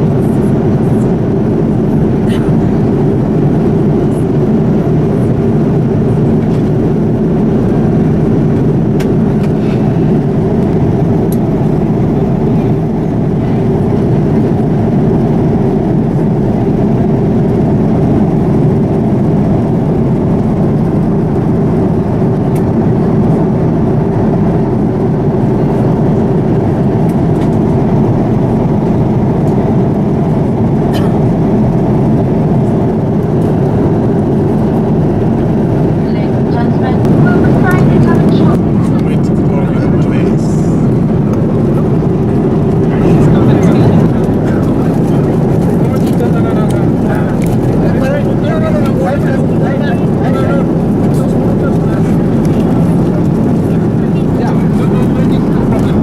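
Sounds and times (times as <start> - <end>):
airliner cabin engine rush: 0.0 - 56.0.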